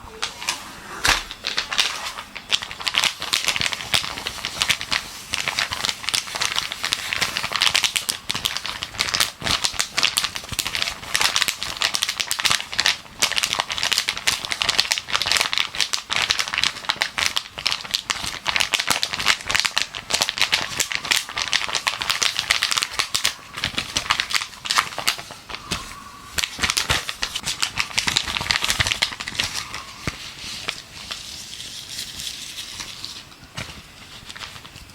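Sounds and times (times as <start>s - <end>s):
gloves crinkling and rustling: 0.1s - 34.9s.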